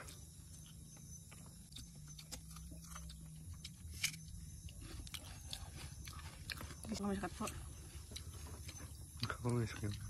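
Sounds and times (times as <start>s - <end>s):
low hum: 0.0s - 10.0s
soft chewing and lip smacks: 0.0s - 10.0s.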